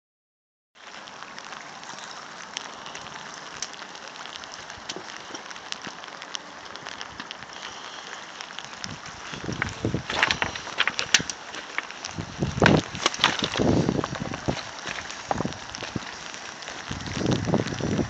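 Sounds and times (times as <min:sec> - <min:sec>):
heavy rain: 0:00.8 - 0:18.0.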